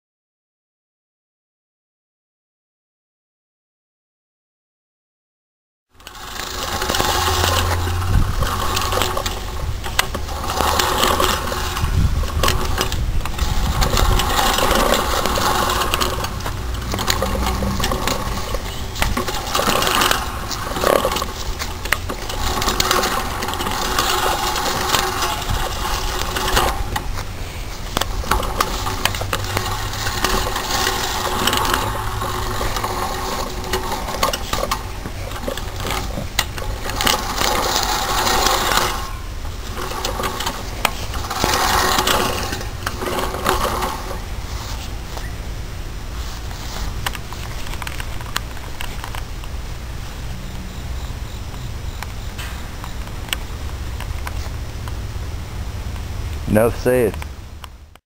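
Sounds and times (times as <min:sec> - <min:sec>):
lawn mower blades whirring: 0:05.9 - 0:58.0.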